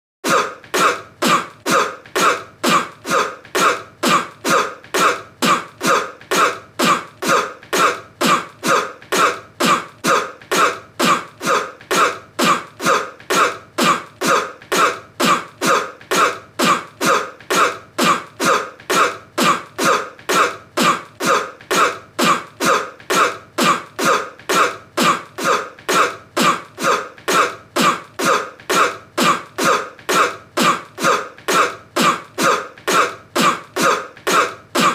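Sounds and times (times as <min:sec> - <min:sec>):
person coughing: 0:00.2 - 0:34.9.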